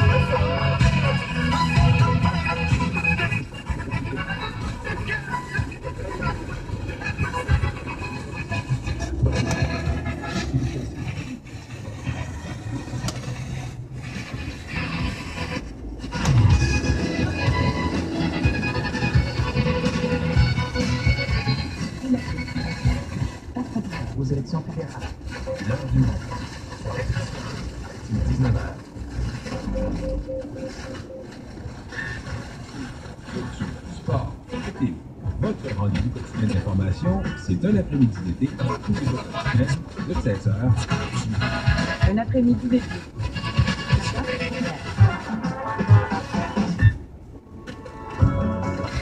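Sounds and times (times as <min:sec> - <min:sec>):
noisy car radio station: 0:00.0 - 0:49.0.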